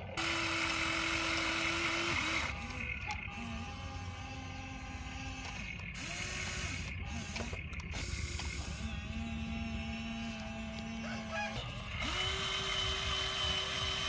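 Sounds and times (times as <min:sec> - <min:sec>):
low steady rumble: 0:00.0 - 0:14.0
toy excavator motors whining: 0:00.0 - 0:14.0.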